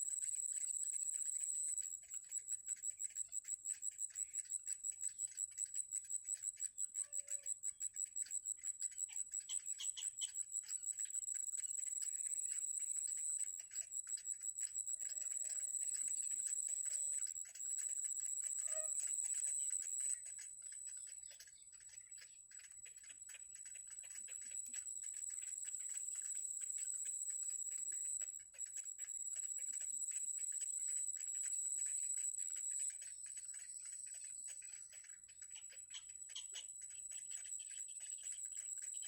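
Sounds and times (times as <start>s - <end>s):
insect trill pulsing fast: 0.0s - 39.0s.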